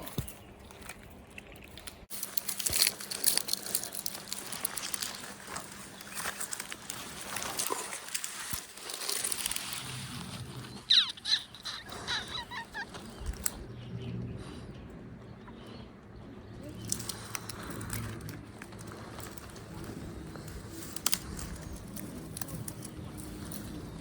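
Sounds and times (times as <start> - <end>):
crackling and rustling: 0.0 - 24.0.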